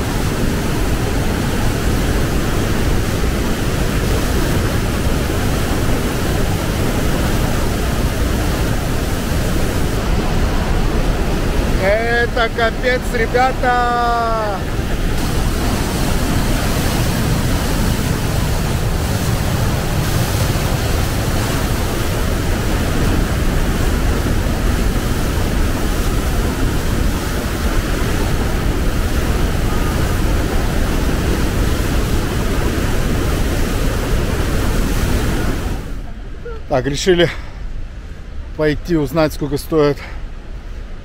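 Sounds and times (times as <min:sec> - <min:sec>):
waterfall rushing: 0:00.0 - 0:37.2.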